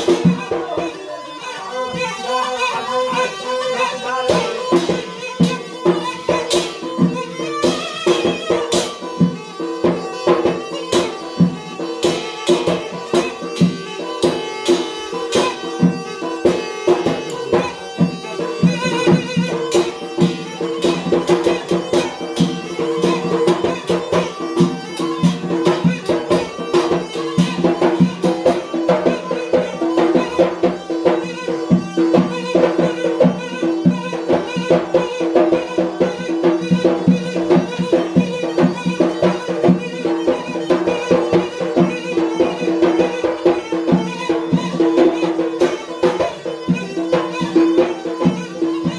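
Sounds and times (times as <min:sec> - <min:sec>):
beating on metal tray: 0:00.0 - 0:48.9
reed pipe melody: 0:00.0 - 0:48.9.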